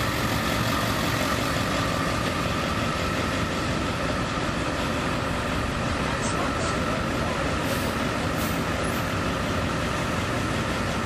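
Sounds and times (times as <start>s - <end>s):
diesel bus engine droning: 0.0s - 11.0s.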